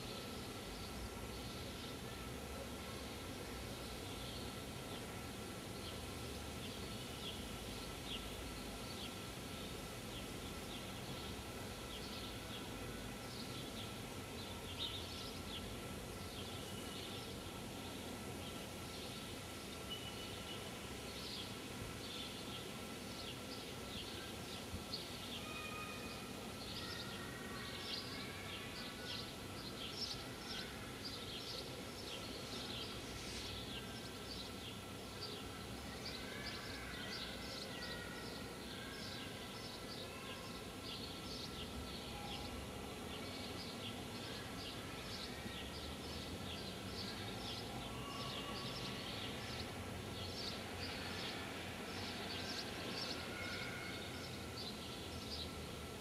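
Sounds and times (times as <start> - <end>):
low steady background noise: 0.0 - 56.0.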